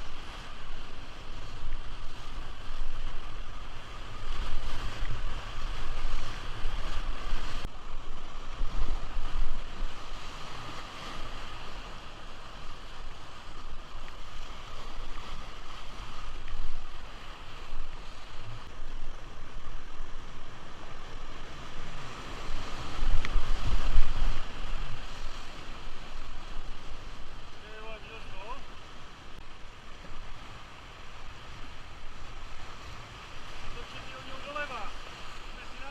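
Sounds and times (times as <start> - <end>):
wind buffeting microphone: 0.0 - 33.9
river water rushing: 0.0 - 35.9.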